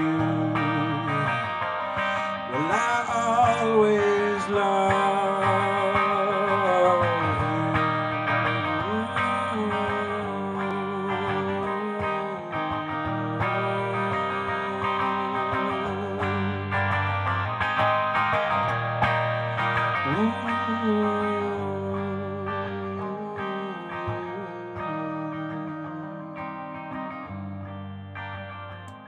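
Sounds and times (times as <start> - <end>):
electric guitar playing slow song: 0.0 - 29.0
held wavering melody line: 0.0 - 29.0.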